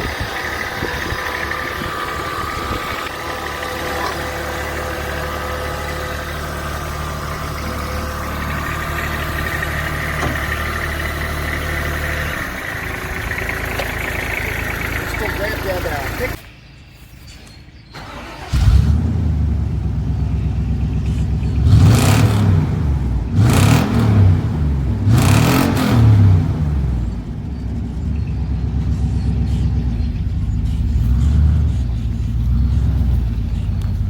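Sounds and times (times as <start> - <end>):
engine revving and running: 0.0 - 16.4, 18.0 - 34.0.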